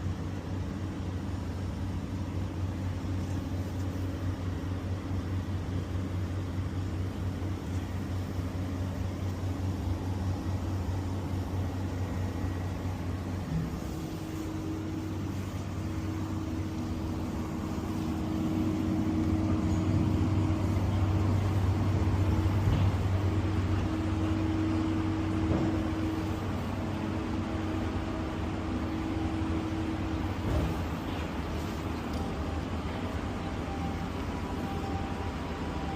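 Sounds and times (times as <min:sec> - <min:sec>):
low mechanical hum: 0:00.0 - 0:35.9
faint droning tone: 0:00.1 - 0:35.9.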